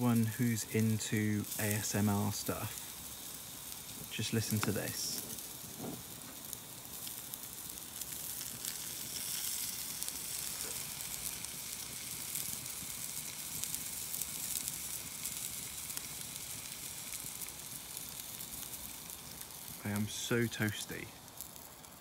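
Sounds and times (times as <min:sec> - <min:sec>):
burning wood crackling: 0:00.0 - 0:22.0
steak sizzling on grill: 0:00.0 - 0:22.0.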